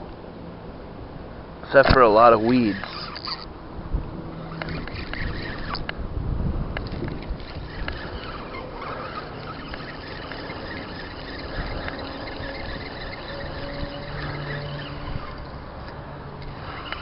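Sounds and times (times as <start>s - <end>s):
fishing reel cranking: 1.7s - 3.5s, 4.3s - 6.0s, 6.7s - 17.0s
wind on microphone: 1.9s - 17.0s.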